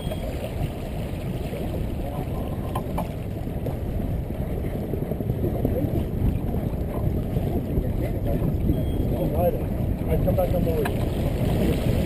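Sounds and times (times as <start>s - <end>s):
water rushing past boat hull: 0.0s - 12.0s
wind buffeting microphone: 0.0s - 12.0s.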